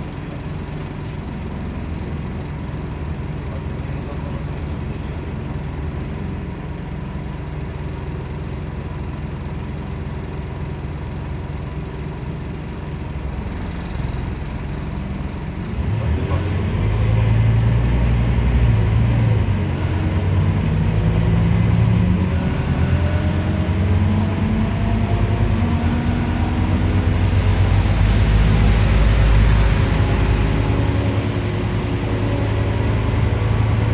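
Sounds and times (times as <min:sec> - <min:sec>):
bus diesel engine running: 0:00.0 - 0:33.9
road noise: 0:00.0 - 0:33.9.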